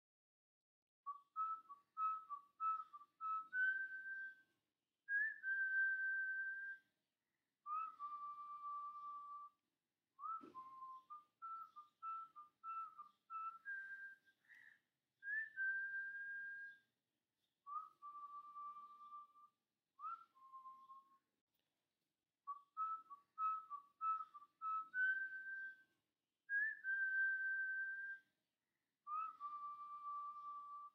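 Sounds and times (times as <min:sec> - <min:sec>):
whistled melody: 0:01.0 - 0:07.0, 0:07.6 - 0:21.4, 0:22.4 - 0:28.4, 0:29.0 - 0:30.9.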